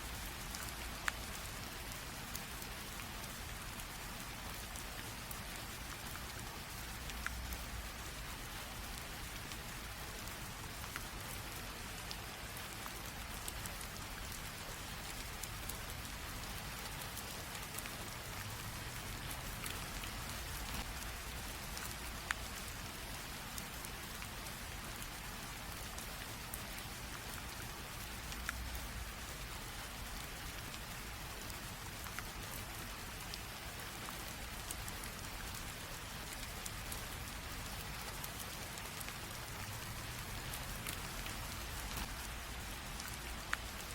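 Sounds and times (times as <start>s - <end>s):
light rain drizzle: 0.0s - 43.9s
raindrops ticking: 0.0s - 43.9s.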